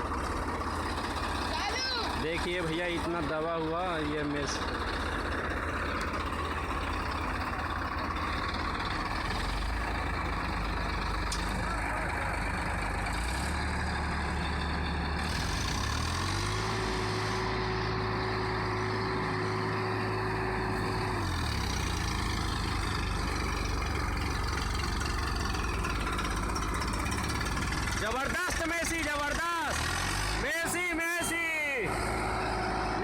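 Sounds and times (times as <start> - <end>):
tractor diesel engine revving: 0.0 - 33.0.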